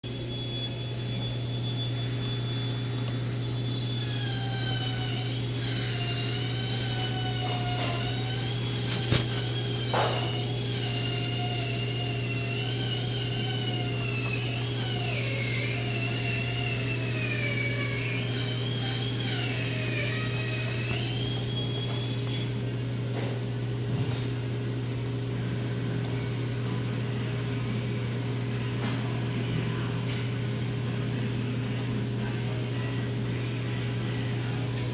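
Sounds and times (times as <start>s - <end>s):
motor humming: 0.0s - 34.9s
motor whine wavering in pitch: 0.0s - 34.9s.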